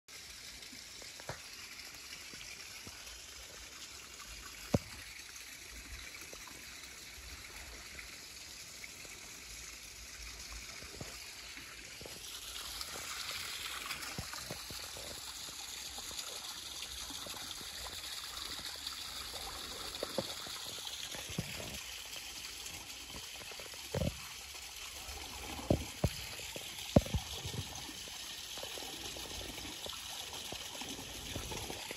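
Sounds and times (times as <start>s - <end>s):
trickle of running water: 0.1s - 31.9s.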